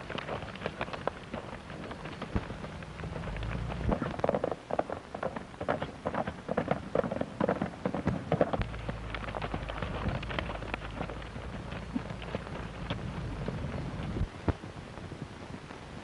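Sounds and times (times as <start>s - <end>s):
horses galloping hoofbeats: 0.0s - 16.0s
low steady hum: 0.0s - 16.0s.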